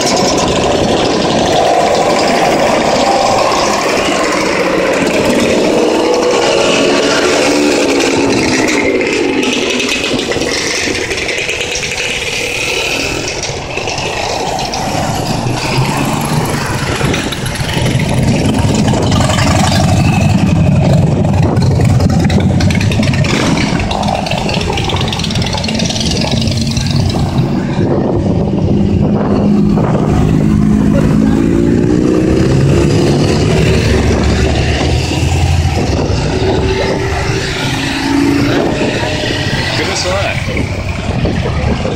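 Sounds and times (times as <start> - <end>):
motorcycles riding past: 0.0 - 41.9.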